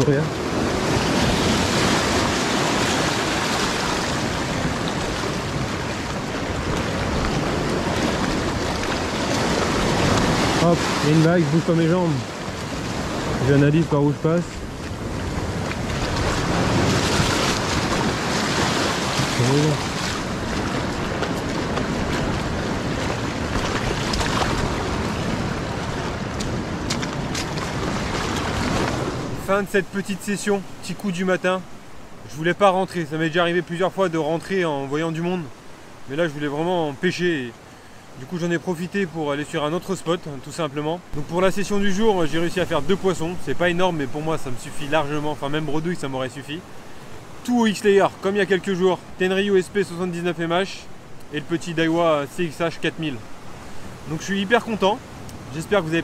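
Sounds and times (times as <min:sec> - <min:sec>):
surf breaking over rocks: 0:00.0 - 0:56.0.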